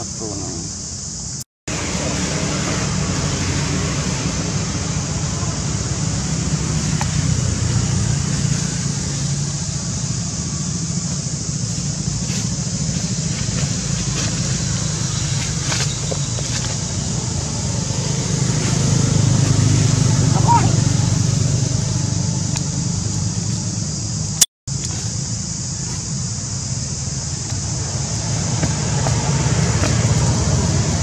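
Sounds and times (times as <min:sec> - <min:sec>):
steady hiss: 0:00.0 - 0:20.6, 0:21.2 - 0:31.0
vehicle engine rumbling: 0:00.0 - 0:31.0.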